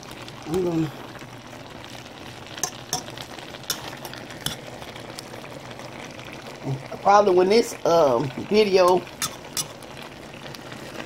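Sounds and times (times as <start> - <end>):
pot simmering with bubbling hiss: 0.0 - 11.0.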